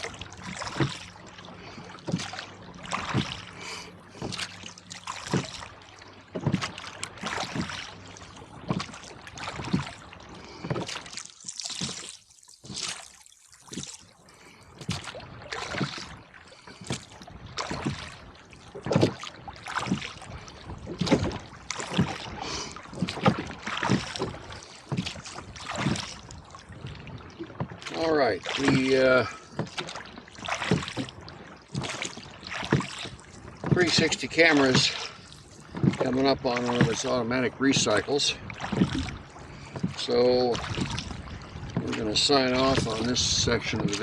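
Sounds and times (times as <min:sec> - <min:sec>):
water splashing around a rowboat: 0:00.0 - 0:44.0.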